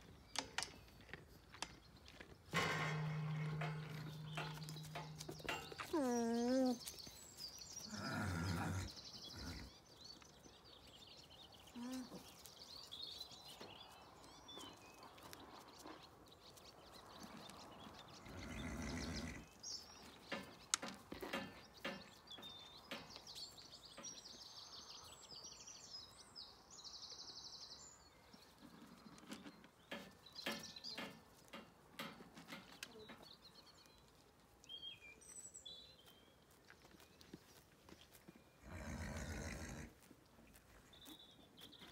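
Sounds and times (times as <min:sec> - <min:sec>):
small birds chirping: 0:03.2 - 0:41.9.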